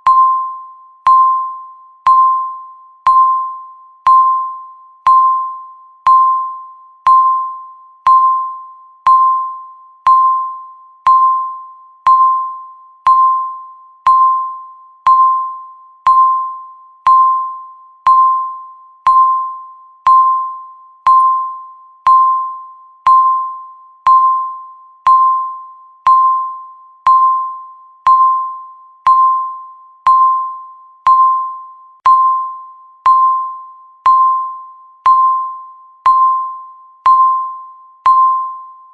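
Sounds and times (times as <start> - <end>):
countdown timer beeping: 0.0 - 38.9.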